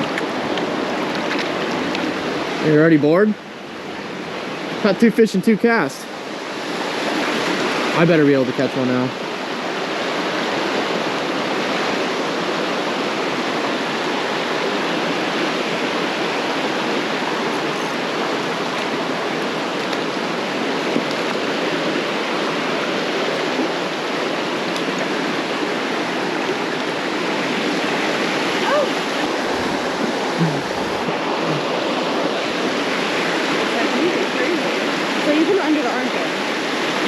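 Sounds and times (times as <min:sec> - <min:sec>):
creek water rushing: 0:00.0 - 0:37.0.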